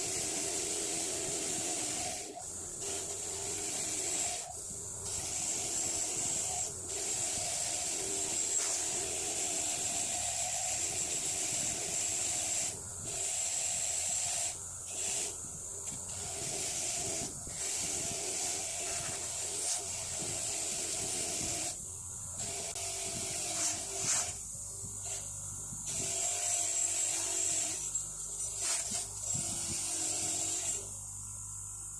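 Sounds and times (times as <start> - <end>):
wire wheel motor humming: 0.0 - 31.9.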